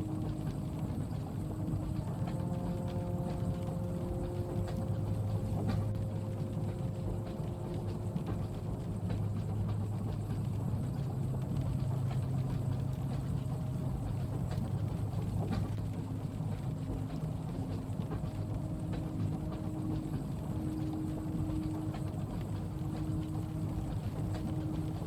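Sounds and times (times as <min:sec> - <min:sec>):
light rain on window: 0:00.0 - 0:25.0
train rumbling: 0:00.0 - 0:25.0.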